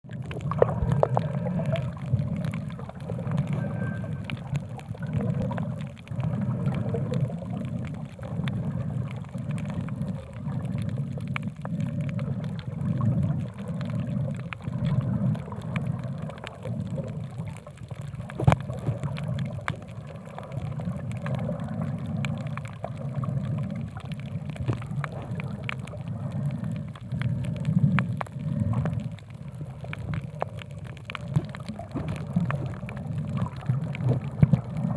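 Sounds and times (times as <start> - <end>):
water sloshing underwater: 0.0 - 34.9.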